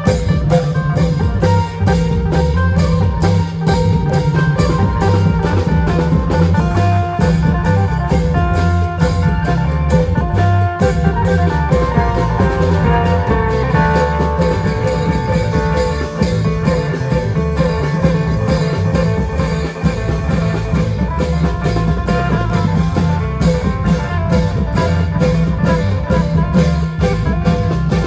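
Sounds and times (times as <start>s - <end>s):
drum band playing loudly: 0.0s - 28.0s.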